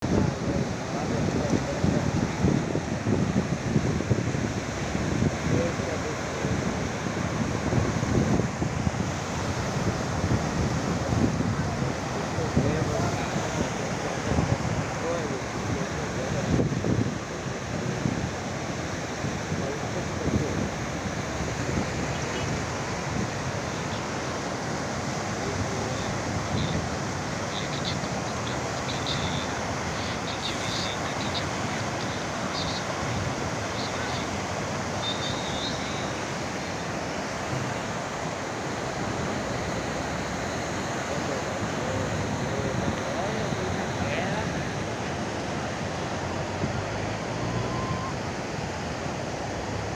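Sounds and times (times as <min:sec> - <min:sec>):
flowing floodwater: 0:00.0 - 0:49.9
heavy rain: 0:00.0 - 0:49.9.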